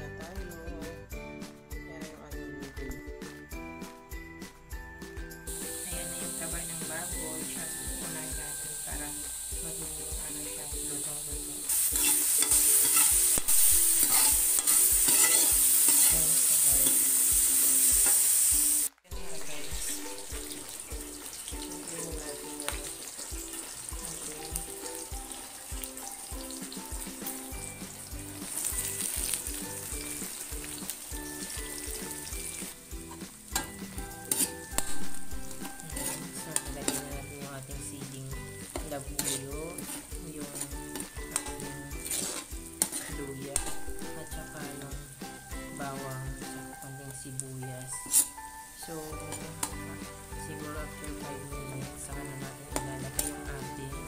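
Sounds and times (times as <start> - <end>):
fat sizzling in hot oil: 5.4 - 54.0.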